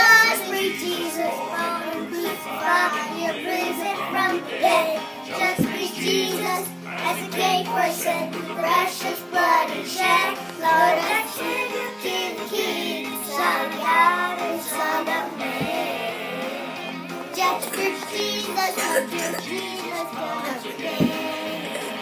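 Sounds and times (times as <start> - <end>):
boys singing: 0.0 - 22.0
musical backing track: 0.0 - 22.0.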